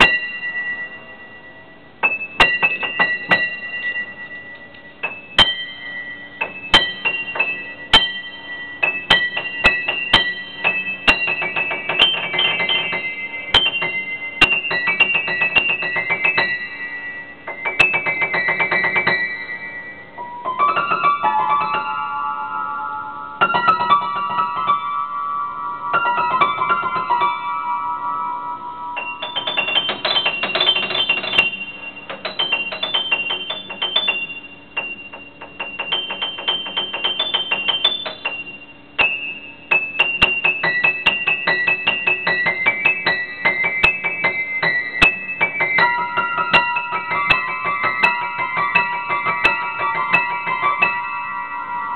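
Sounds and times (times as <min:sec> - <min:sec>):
solo piano playing: 0:00.0 - 0:51.9.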